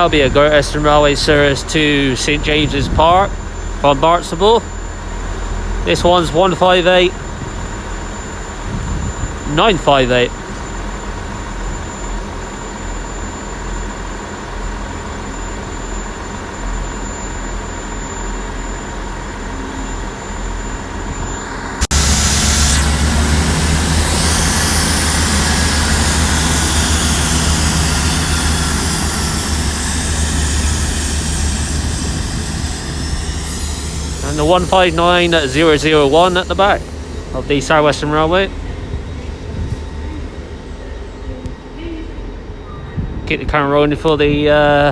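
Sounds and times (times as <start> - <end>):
high engine whine: 0.0 - 44.9
train diesel engines running: 0.0 - 44.9.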